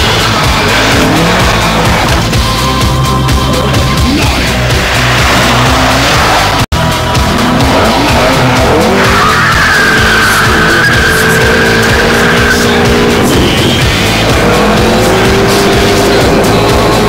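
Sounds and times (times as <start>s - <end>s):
car engine running hard: 0.0s - 17.0s
car tyres squealing: 0.0s - 17.0s.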